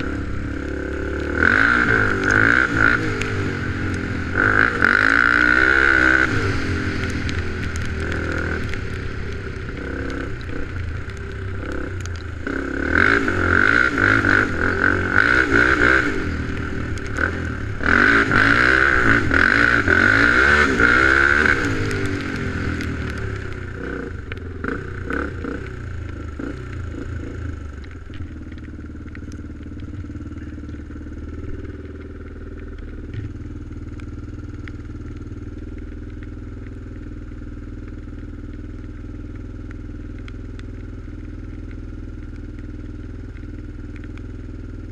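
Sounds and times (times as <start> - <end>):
atv engine revving: 0.0 - 40.2.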